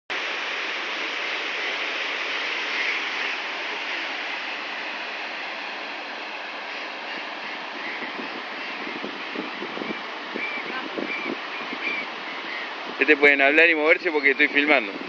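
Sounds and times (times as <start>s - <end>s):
steady rushing noise: 0.1s - 15.0s.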